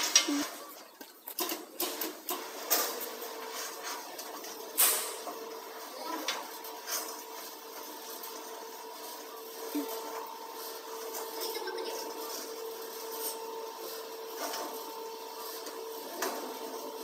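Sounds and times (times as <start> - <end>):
sheet metal scraping and clanking: 0.0 - 17.0
machine humming: 1.4 - 17.0.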